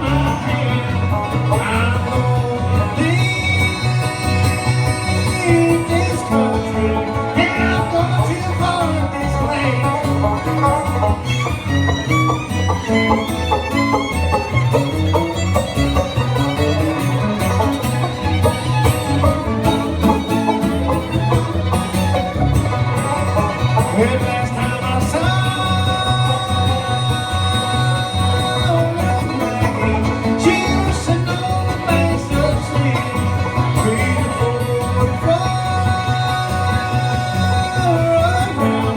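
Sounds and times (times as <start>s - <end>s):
banjo: 0.0s - 38.9s
bass beat: 0.0s - 38.9s
fiddle: 0.0s - 38.9s
guitar: 0.0s - 38.9s.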